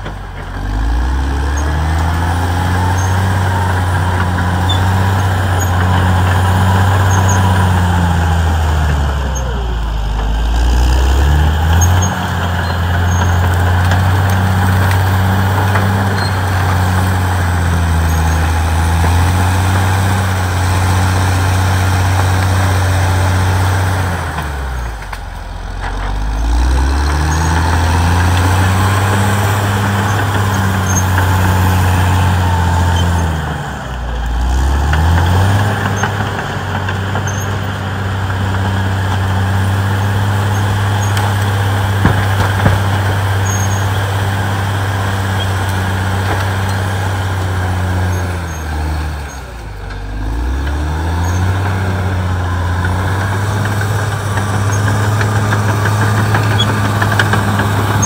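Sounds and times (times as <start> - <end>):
bulldozer diesel engine running hard: 0.0 - 58.0
dozer pushing through brush: 0.0 - 58.0.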